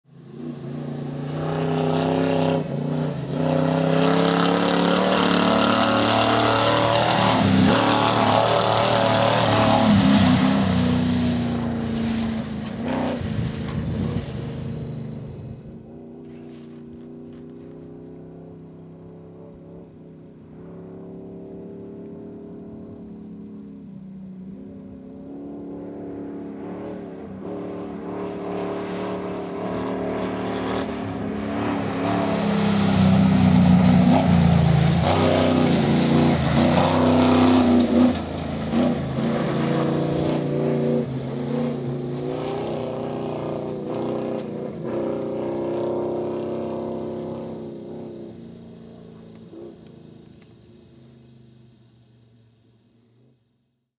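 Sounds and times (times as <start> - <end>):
truck engine running hard: 0.0 - 19.6, 21.9 - 47.2.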